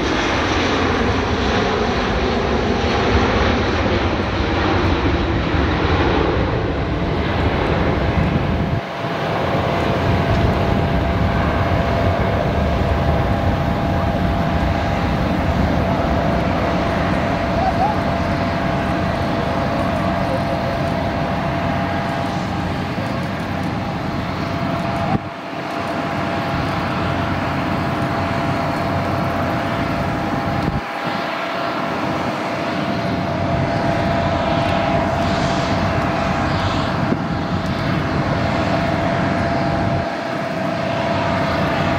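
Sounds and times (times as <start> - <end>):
jet engines at takeoff thrust: 0.0 - 41.9.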